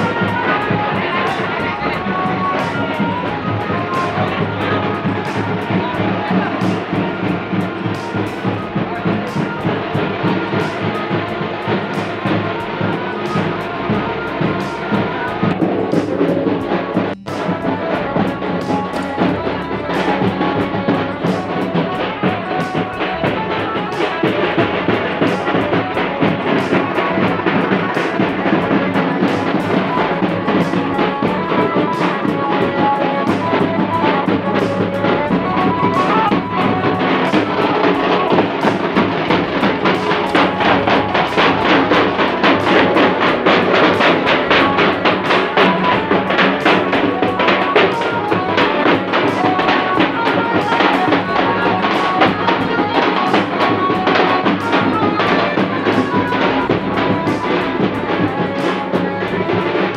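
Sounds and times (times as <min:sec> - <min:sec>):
bass drums beating: 0:00.0 - 0:59.9
procession band melody: 0:00.0 - 0:59.9.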